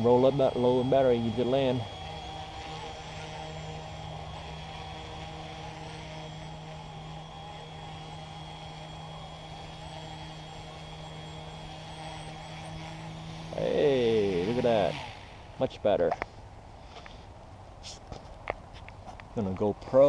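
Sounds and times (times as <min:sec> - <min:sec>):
rc helicopter rotors whirring: 0:00.0 - 0:20.0.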